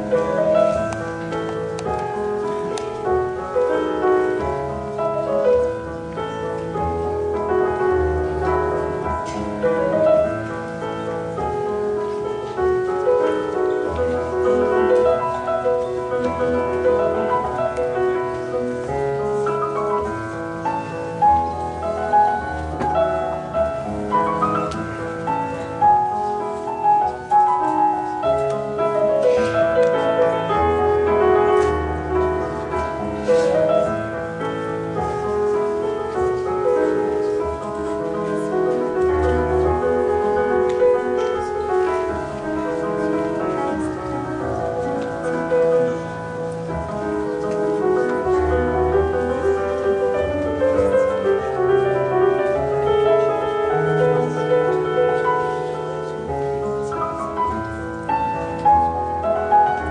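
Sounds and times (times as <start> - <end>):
solo piano classical piece: 0.0 - 59.9.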